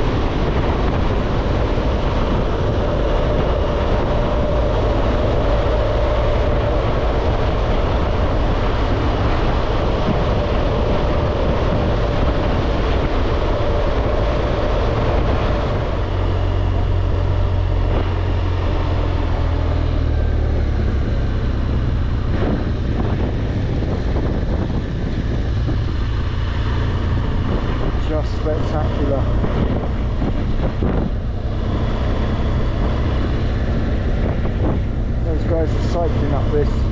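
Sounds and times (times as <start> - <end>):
wind rush on microphone: 0.0 - 36.9.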